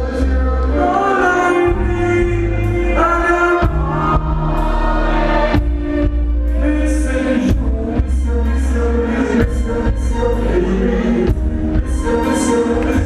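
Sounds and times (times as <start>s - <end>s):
reggae band music with singing: 0.0s - 13.0s.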